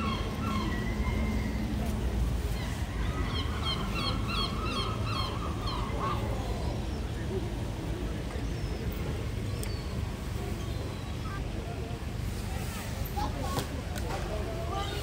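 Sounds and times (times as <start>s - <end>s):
town background rumble: 0.0s - 15.0s.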